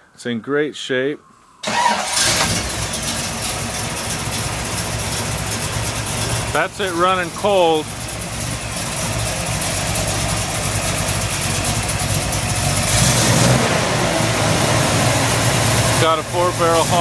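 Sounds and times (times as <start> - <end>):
car engine idling: 1.6 - 17.0.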